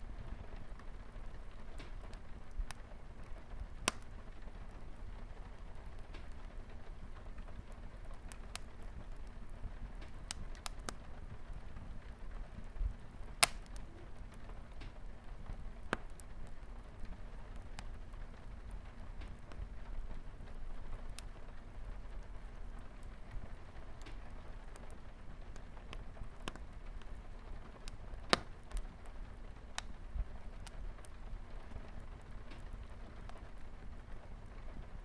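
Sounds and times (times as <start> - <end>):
fire pops and snaps: 0.0 - 35.0
light rain on a window: 0.0 - 35.0
wood fire crackling: 0.0 - 35.0.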